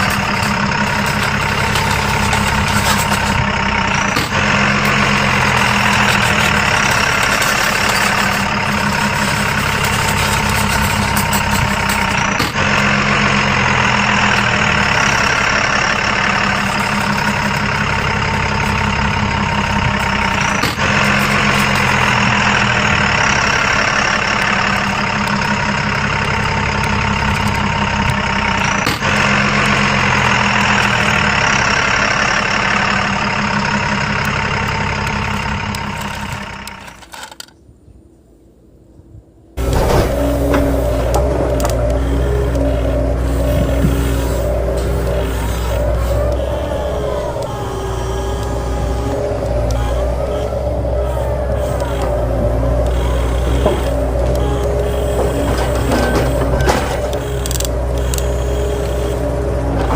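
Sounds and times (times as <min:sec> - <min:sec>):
toy excavator motor hum: 0:00.0 - 0:37.5, 0:39.6 - 0:59.9
high mechanical whine: 0:00.0 - 0:59.9.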